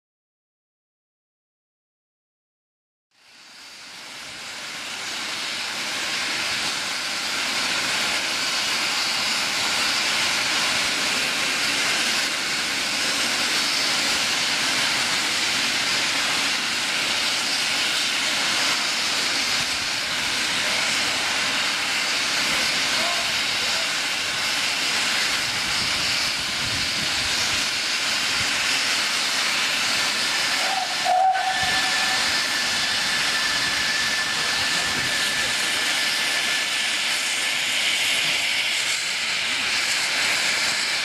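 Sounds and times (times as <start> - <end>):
steam hissing from train: 3.2 - 41.0.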